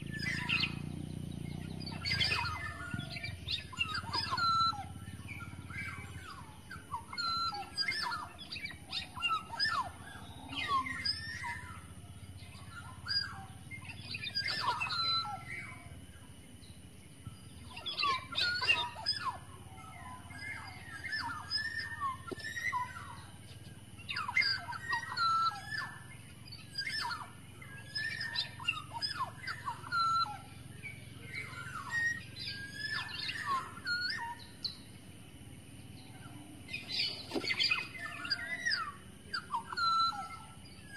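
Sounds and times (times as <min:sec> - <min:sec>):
bird whistling and chirping: 0:00.0 - 0:35.1, 0:35.8 - 0:40.9.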